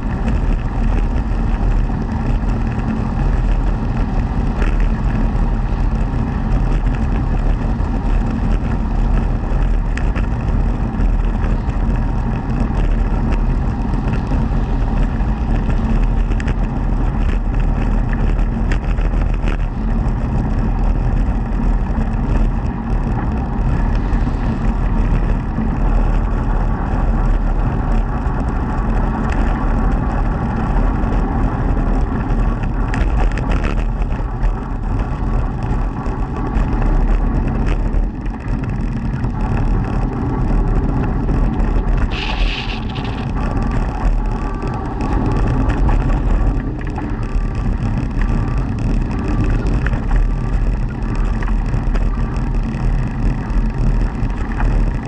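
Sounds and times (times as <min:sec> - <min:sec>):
tyres rumbling on asphalt: 0:00.0 - 0:55.0.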